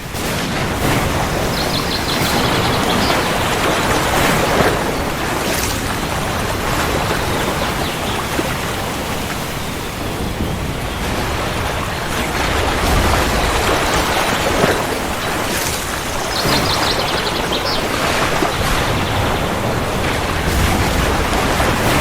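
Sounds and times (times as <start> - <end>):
low thunder rumble: 0.0 - 22.0
steady rain hiss: 0.0 - 22.0.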